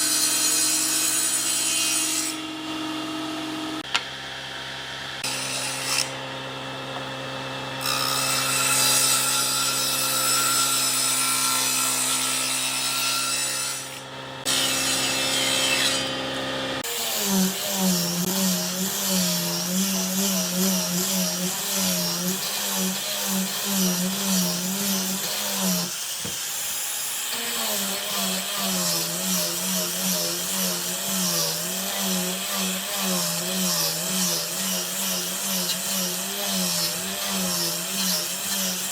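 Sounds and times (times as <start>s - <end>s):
electric power tool working wood: 4.7s - 38.9s.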